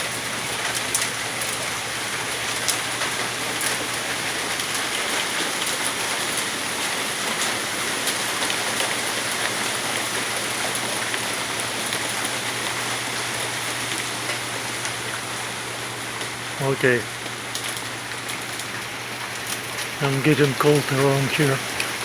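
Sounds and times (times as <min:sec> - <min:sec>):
rain and hail falling: 0:00.0 - 0:22.0.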